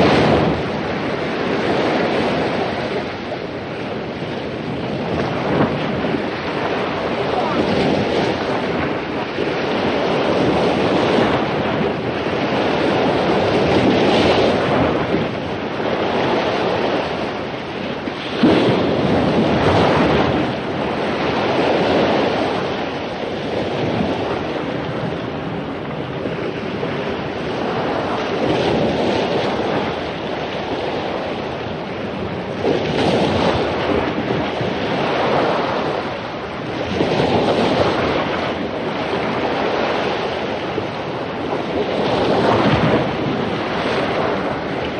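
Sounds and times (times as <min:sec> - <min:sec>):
ocean waves crashing on beach: 0:00.0 - 0:44.9.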